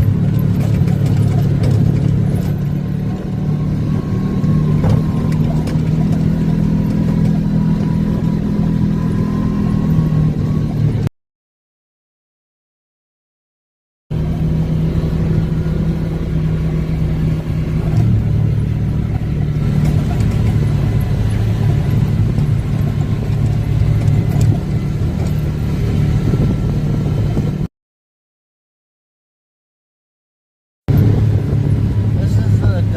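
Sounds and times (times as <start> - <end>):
off-road vehicle engine running: 0.0 - 11.1, 14.1 - 27.7, 30.9 - 32.9.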